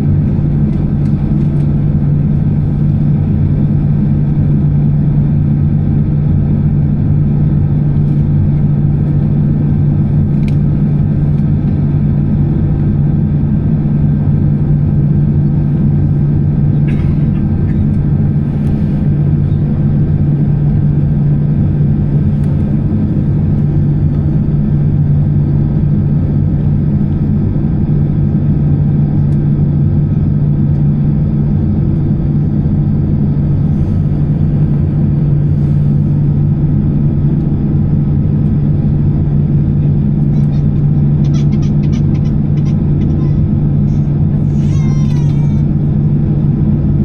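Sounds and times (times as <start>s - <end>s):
aircraft cabin engine drone: 0.0s - 47.0s.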